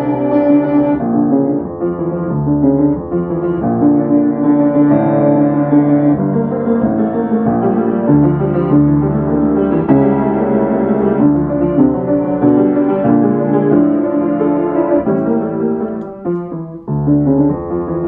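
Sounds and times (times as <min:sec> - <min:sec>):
piano playing fast notes: 0:00.0 - 0:18.0.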